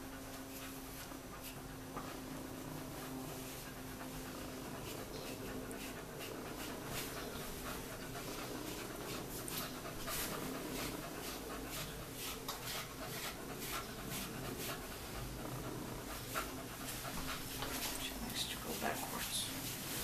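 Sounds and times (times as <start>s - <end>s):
dog panting: 0.0s - 20.0s
faint steady hum: 0.0s - 20.0s.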